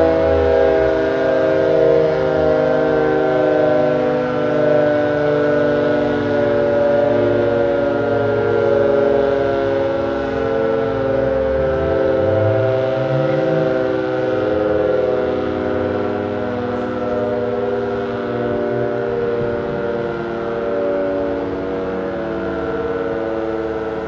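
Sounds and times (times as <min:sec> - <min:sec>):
fire station siren steady tone: 0:00.0 - 0:24.0.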